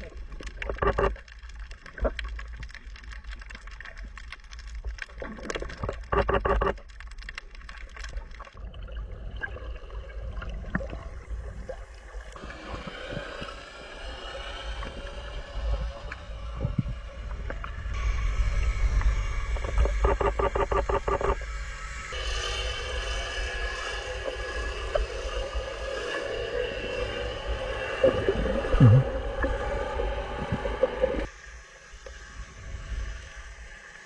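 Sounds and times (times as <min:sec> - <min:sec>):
water sloshing and gurgling: 0:00.0 - 0:33.8.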